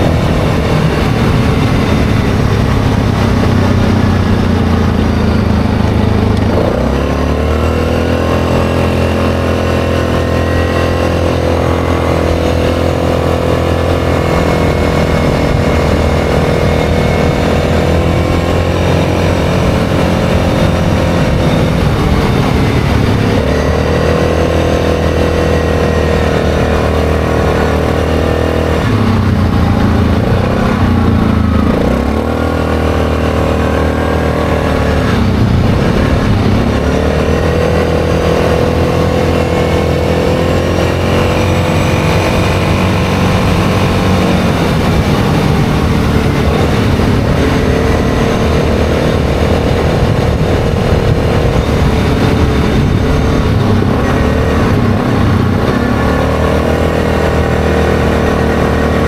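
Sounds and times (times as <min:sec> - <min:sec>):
atv engine on gravel road: 0:00.0 - 0:59.0.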